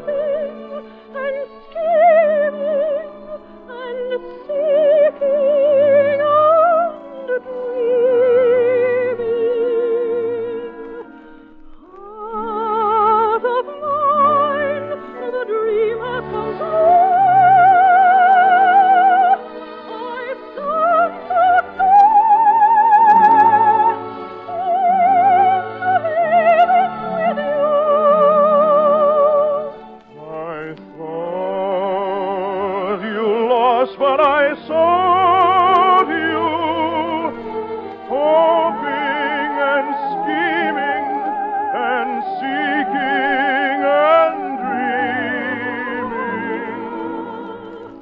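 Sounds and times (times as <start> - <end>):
operetta singing with vibrato: 0.0 - 48.0
orchestral accompaniment: 0.0 - 48.0.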